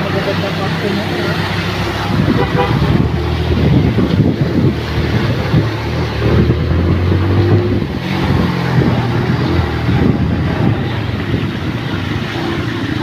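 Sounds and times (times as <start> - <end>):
tyres hissing through water: 0.0 - 13.0.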